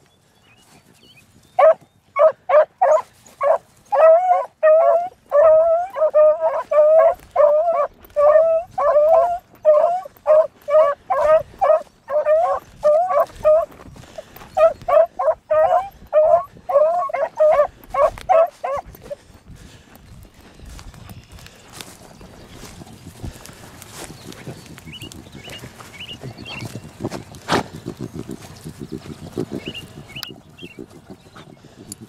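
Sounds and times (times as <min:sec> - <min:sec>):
beagles baying: 0:01.6 - 0:19.8, 0:20.7 - 0:31.9.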